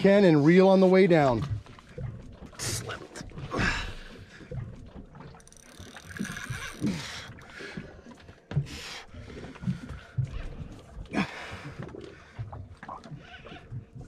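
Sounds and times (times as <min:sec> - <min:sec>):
water sloshing against boat hull: 0:00.0 - 0:14.0
wind: 0:00.0 - 0:14.0.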